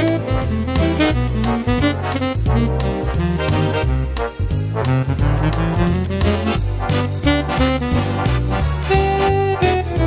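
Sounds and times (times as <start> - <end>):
swing jazz big band music: 0.0 - 10.0.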